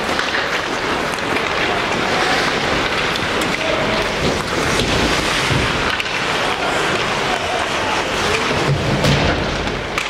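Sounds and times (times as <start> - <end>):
ice hockey rink noise: 0.0 - 10.0.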